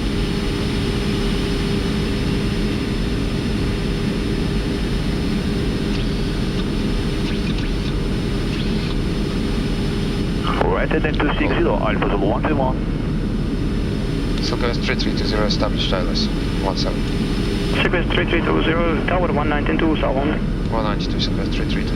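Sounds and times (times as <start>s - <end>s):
aircraft cockpit engine noise: 0.0s - 21.9s
constant low hum: 0.0s - 21.9s.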